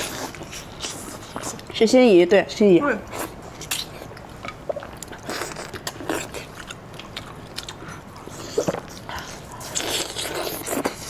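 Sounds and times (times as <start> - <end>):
person chewing crunchy food: 0.0 - 1.7, 3.1 - 11.0.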